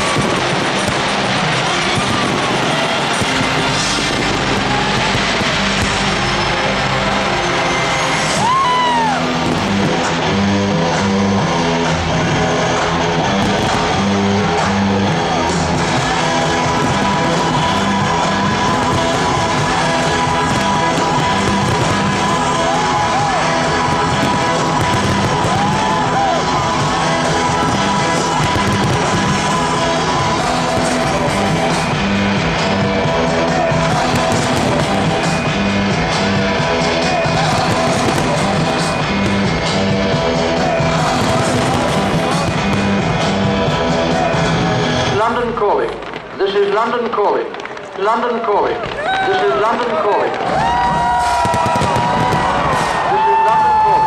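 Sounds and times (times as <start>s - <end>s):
loud rock music: 0.0s - 47.2s, 49.5s - 54.0s.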